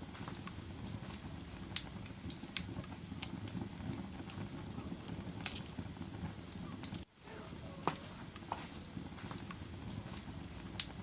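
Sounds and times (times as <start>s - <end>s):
fire crackles and pops: 0.0s - 11.0s
fire rumbling: 0.0s - 11.0s.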